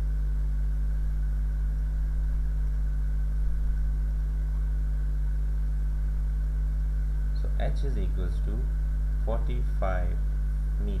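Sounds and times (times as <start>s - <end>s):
mains hum: 0.0s - 11.0s.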